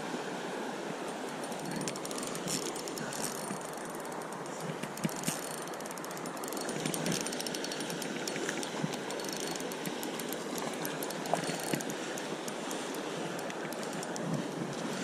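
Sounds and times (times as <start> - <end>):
stream flowing: 0.0 - 15.0
fishing reel ticking: 1.4 - 15.0.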